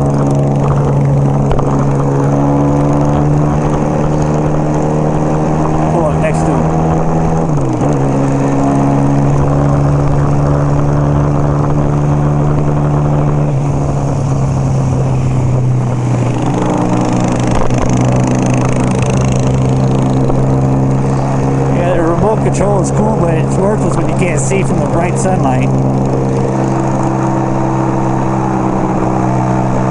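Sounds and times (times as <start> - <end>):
motorcycle engine cruising: 0.0 - 29.9
wind rushing past microphone: 0.0 - 29.9.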